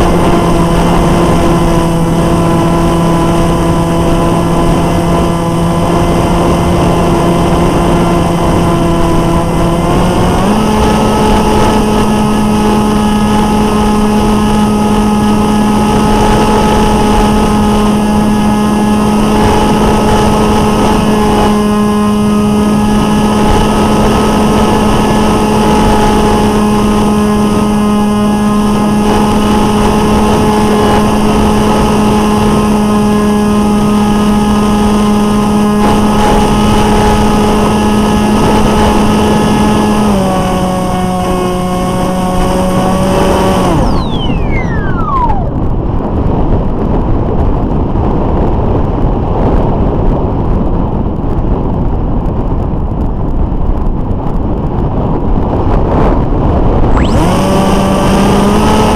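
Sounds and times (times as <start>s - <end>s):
electric motor propeller drone: 0.0s - 46.0s, 56.9s - 58.9s
motor spinning down whine: 0.0s - 46.6s, 56.8s - 58.9s
wind rushing: 0.0s - 58.9s.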